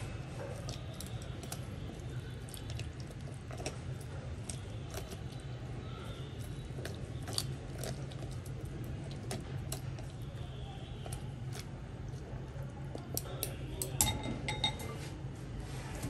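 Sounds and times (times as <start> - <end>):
wooden chopsticks clicking and scraping: 0.0 - 10.3, 11.0 - 14.0.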